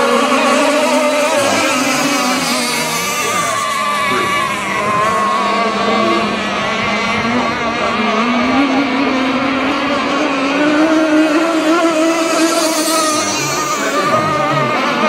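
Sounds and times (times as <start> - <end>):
small motors buzzing: 0.0 - 15.0.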